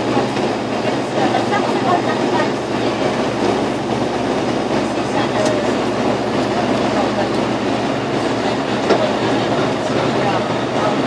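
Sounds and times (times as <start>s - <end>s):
aircraft cabin rushing noise: 0.0s - 11.0s
low propeller hum: 0.0s - 11.0s.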